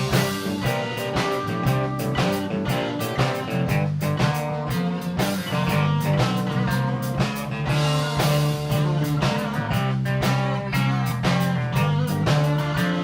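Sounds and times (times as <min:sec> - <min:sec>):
blues band playing: 0:00.0 - 0:13.0
guitar: 0:00.0 - 0:13.0
steady drum beat: 0:00.0 - 0:13.0.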